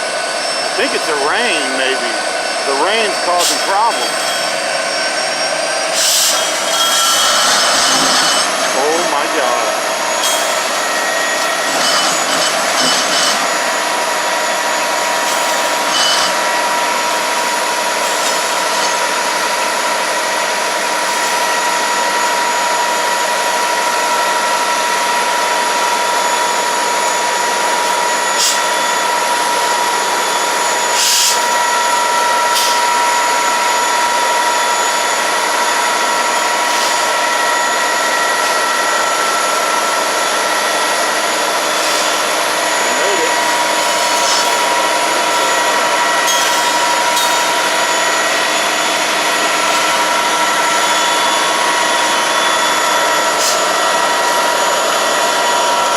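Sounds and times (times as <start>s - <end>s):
high whines: 0.0s - 16.8s, 27.1s - 55.9s
diesel locomotive engines running: 0.0s - 55.9s.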